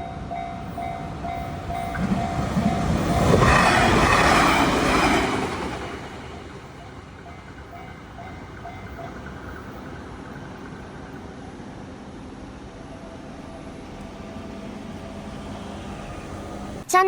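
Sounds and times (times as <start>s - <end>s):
electric train rumbling on rails: 0.0s - 16.9s.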